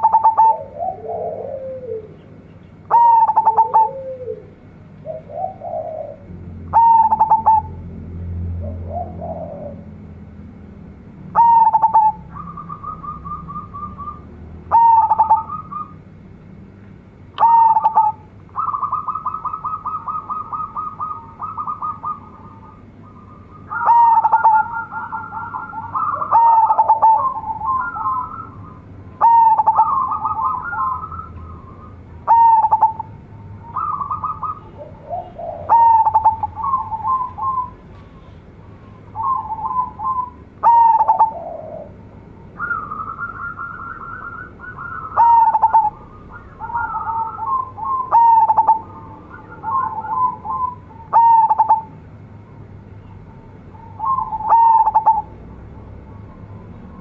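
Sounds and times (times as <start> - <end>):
dove cooing: 0.0 - 10.1, 11.3 - 16.0, 17.4 - 52.0, 53.8 - 55.4.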